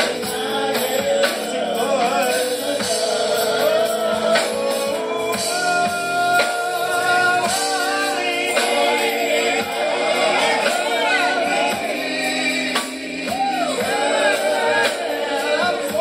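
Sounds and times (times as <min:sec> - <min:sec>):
gospel band with percussion: 0:00.0 - 0:16.0.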